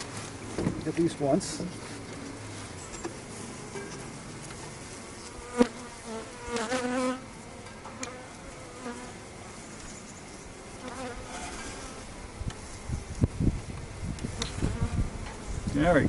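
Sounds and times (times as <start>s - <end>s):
honey bees buzzing: 0.0s - 15.8s
bee droning hum passing close: 0.0s - 16.0s.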